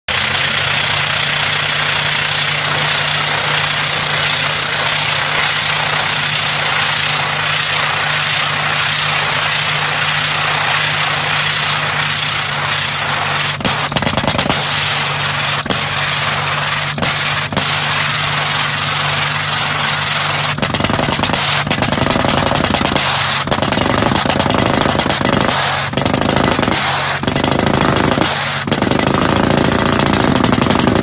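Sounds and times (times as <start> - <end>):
drill rig engine hum: 0.1 - 31.0
rapid drill hammering: 0.1 - 31.0.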